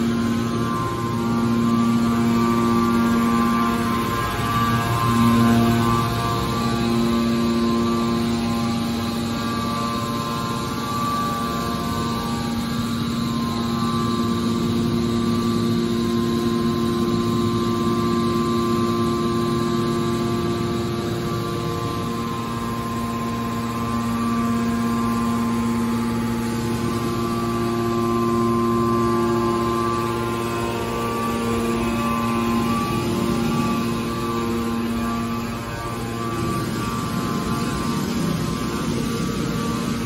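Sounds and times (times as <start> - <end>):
hydraulic pump hum and whine: 0.0 - 40.0.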